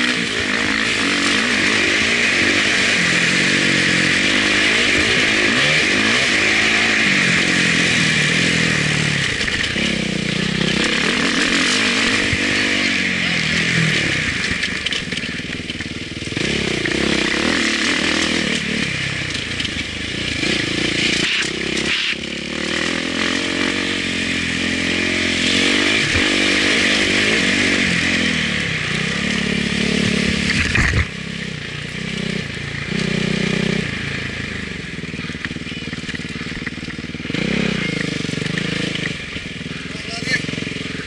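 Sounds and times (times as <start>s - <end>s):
motocross engine revving: 0.0s - 41.0s.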